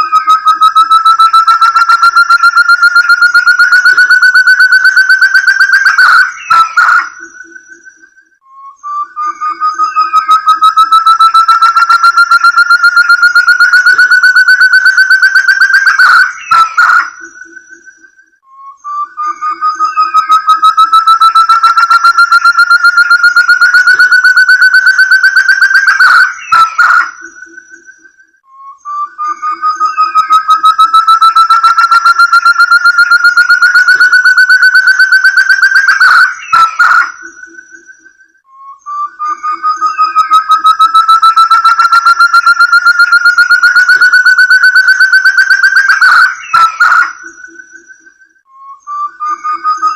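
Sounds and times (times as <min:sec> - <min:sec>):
quail whistled call: 0:00.0 - 0:49.9.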